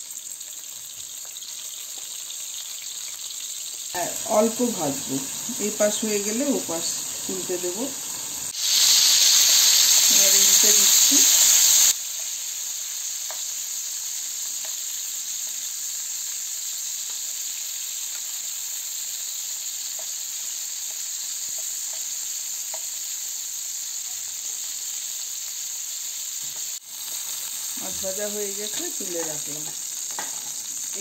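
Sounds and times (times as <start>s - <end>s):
prawns sizzling in oil: 0.0s - 31.0s.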